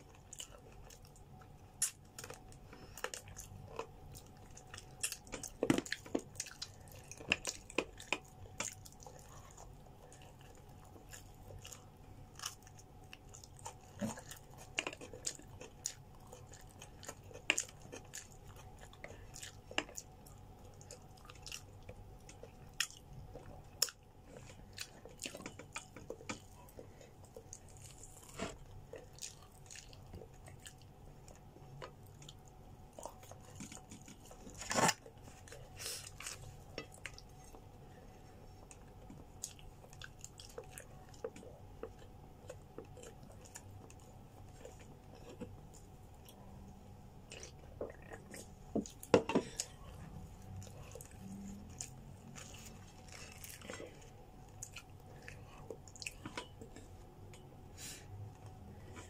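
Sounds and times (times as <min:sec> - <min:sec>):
person chewing: 0:00.0 - 0:57.4.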